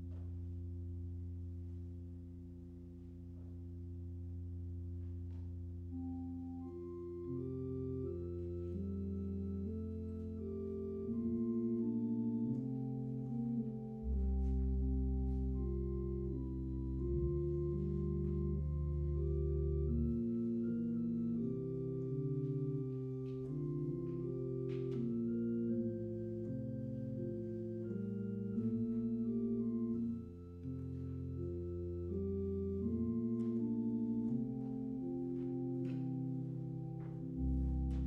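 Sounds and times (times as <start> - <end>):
organ playing slow chords: 0.0 - 38.0.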